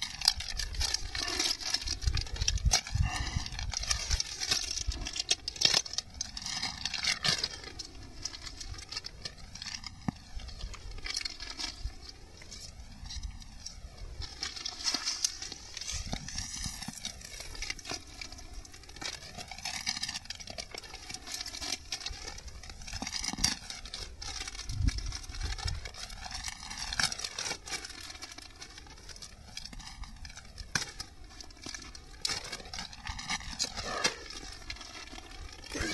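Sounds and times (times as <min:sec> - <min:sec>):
plastic bag crinkling: 0:00.0 - 0:35.9.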